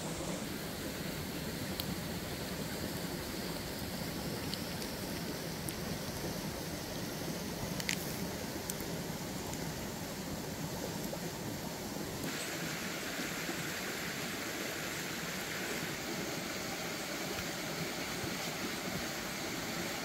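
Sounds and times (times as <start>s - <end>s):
forest ambience rushing hiss: 0.0s - 20.0s.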